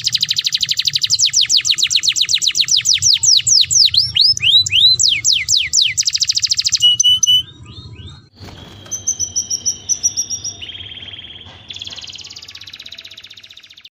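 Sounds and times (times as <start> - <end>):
canary singing: 0.0 - 13.9.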